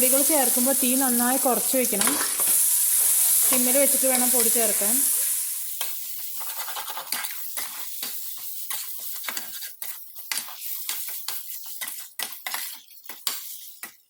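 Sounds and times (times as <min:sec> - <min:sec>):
spoon scraping a frying pan: 0:00.0 - 0:14.0.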